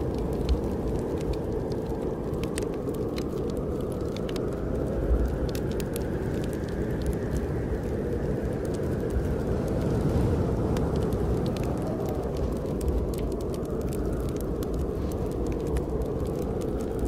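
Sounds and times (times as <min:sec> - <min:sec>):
snowstorm wind roaring: 0:00.0 - 0:17.0
wood fire crackling: 0:00.0 - 0:17.0.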